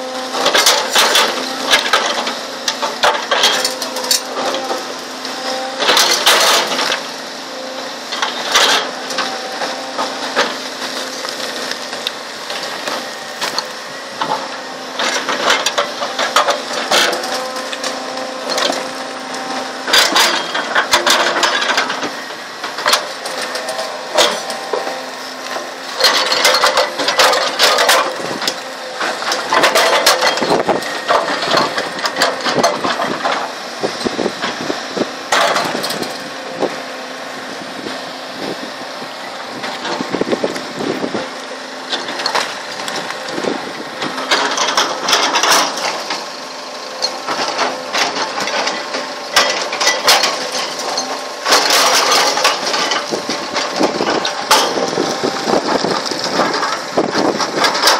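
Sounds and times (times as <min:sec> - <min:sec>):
excavator diesel engine humming: 0:00.0 - 0:57.9.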